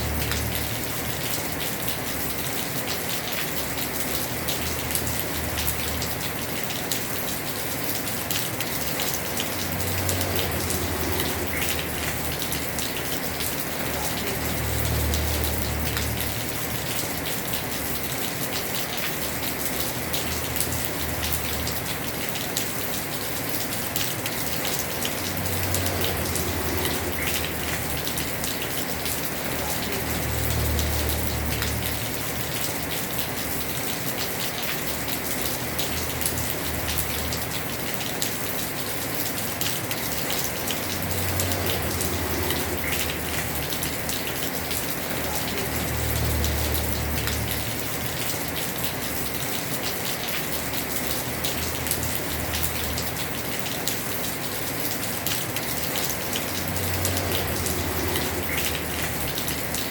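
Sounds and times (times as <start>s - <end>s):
heavy rain on roof: 0.0s - 59.9s.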